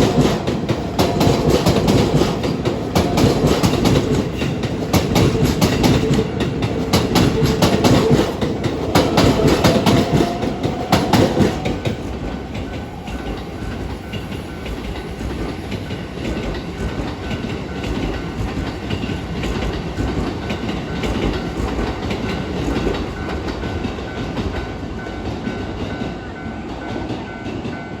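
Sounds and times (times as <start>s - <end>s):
train wheels clicking over rails: 0.0s - 28.0s.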